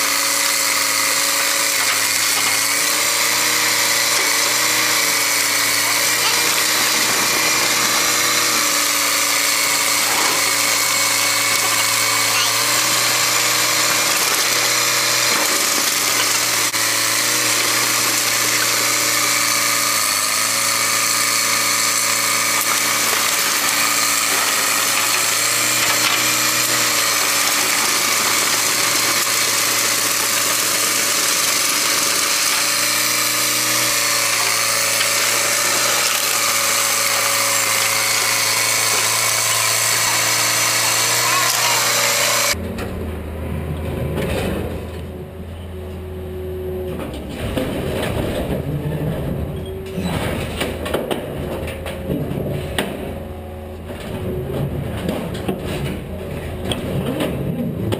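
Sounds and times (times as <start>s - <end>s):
diesel engine under load: 0.0s - 57.9s.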